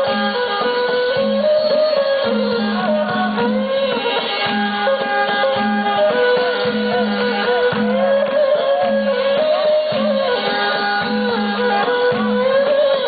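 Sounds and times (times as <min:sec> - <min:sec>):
bending folk melody: 0:00.0 - 0:13.0
hand drum strokes: 0:00.0 - 0:13.0.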